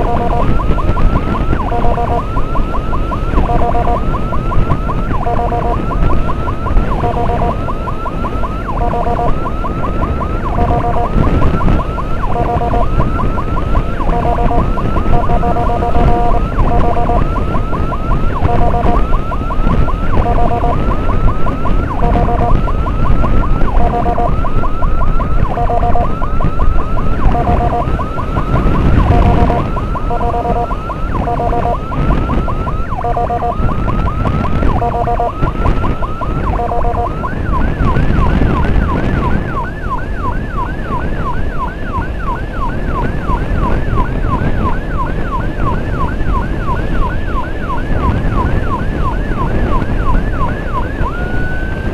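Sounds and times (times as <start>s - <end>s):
electronic siren yelping: 0.0s - 51.9s
siren rising whoops: 0.0s - 51.9s
wind rumble: 0.0s - 51.9s.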